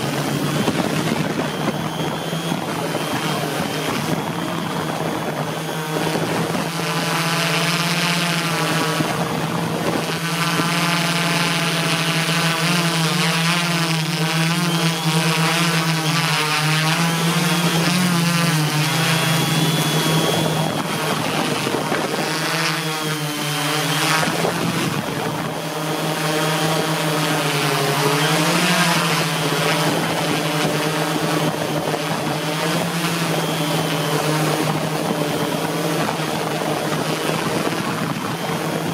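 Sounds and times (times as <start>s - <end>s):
drone motors and propellers whirring: 0.0s - 38.9s.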